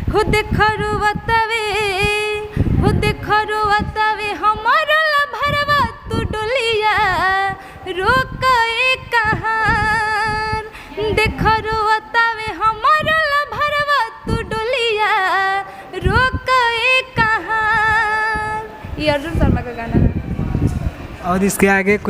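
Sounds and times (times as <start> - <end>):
woman singing unaccompanied: 0.0 - 20.2.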